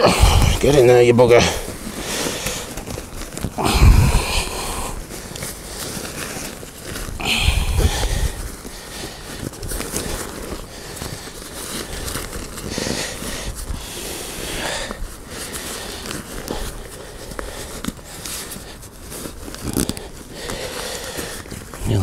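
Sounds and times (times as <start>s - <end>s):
nylon fabric rustling: 0.0s - 22.0s.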